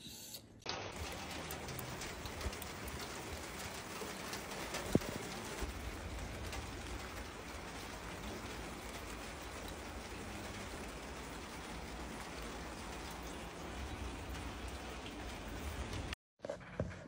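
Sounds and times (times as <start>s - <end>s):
steady rain hiss: 0.7s - 16.2s.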